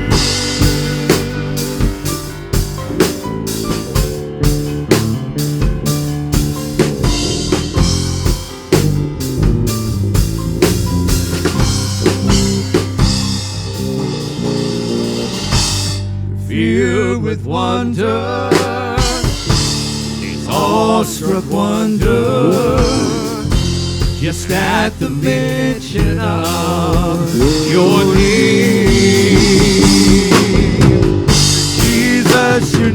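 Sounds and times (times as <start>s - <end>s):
drum kit beat: 0.0s - 16.1s, 18.5s - 32.9s
live band playing: 0.0s - 16.2s, 18.5s - 32.9s.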